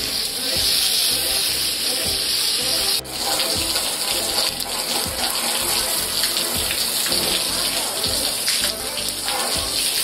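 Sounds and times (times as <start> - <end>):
background music: 0.0 - 10.0
hose water spraying on metal: 0.0 - 10.0.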